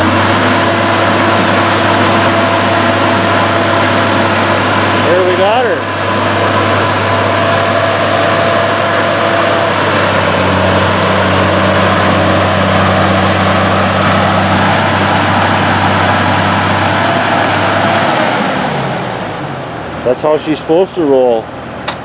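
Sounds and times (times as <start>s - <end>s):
cooling fan air rush: 0.0s - 22.0s
diesel engine running: 0.0s - 22.0s.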